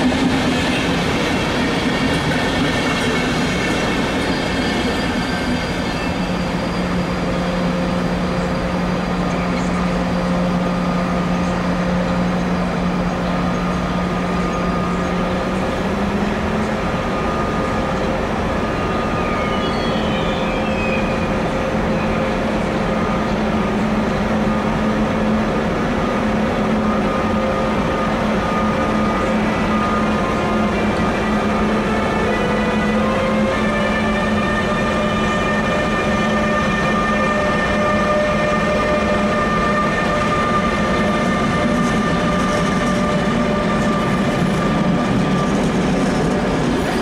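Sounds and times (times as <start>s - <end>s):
electric locomotive hum: 0.0s - 47.0s.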